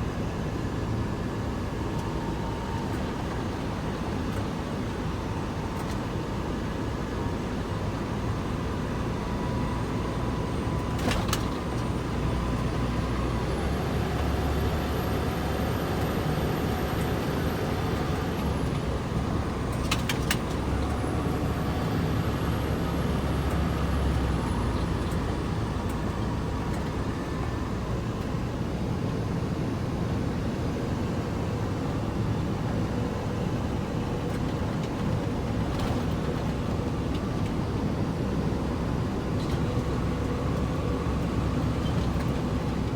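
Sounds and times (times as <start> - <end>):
truck engine and road noise: 0.0 - 42.9.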